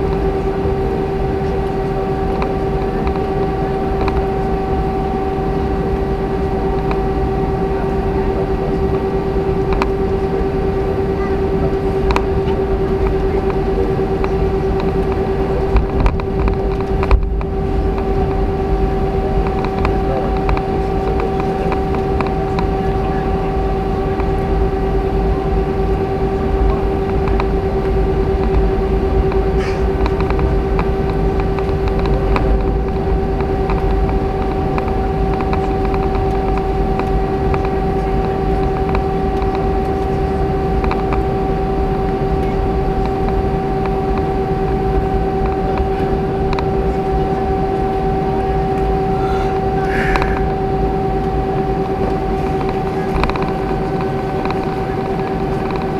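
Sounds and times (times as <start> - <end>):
aircraft cabin drone: 0.0 - 55.9
rumble of taxiing aircraft: 0.0 - 55.9.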